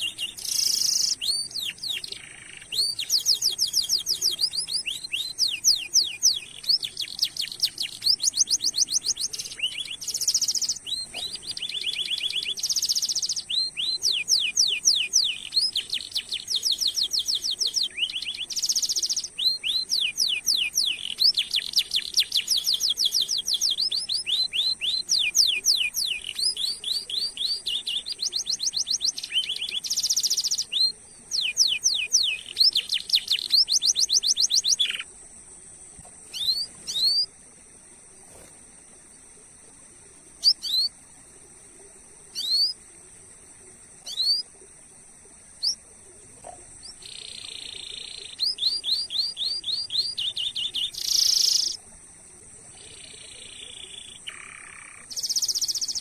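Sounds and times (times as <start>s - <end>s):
canary singing: 0.0s - 35.1s, 36.3s - 37.3s, 42.3s - 42.8s, 44.0s - 44.5s, 46.4s - 51.8s, 52.7s - 56.0s.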